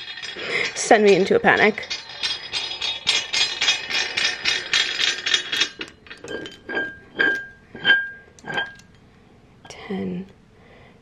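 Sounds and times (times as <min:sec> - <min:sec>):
weight plates clinking and rattling: 0:00.0 - 0:09.0.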